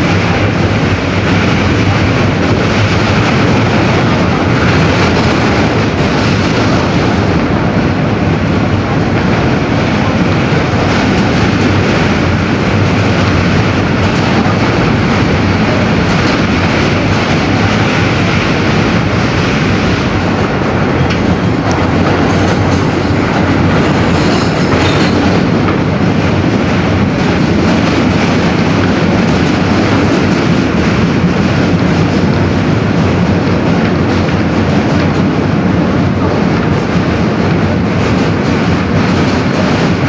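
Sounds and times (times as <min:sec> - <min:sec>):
clickety-clack over rail joints: 0:00.0 - 0:40.0
subway wheels rumbling on rails: 0:00.0 - 0:40.0.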